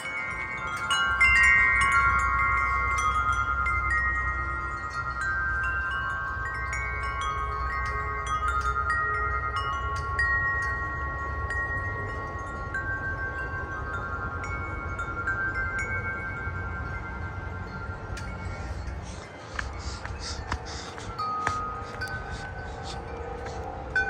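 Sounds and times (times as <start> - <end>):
low wind rumble: 0.0 - 24.0
wind chimes ringing: 0.0 - 24.0.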